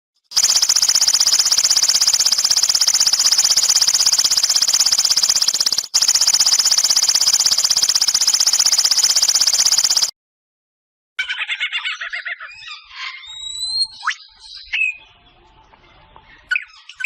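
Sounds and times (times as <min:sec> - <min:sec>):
bird rapid high-pitched trill: 0:00.3 - 0:10.1, 0:11.6 - 0:15.3, 0:16.3 - 0:17.0.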